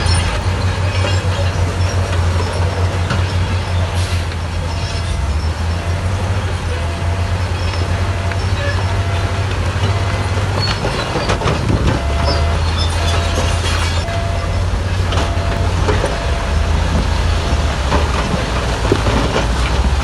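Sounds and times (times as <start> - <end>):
bulldozer diesel engine rumbling: 0.0 - 20.0
steel tracks clanking: 0.0 - 20.0.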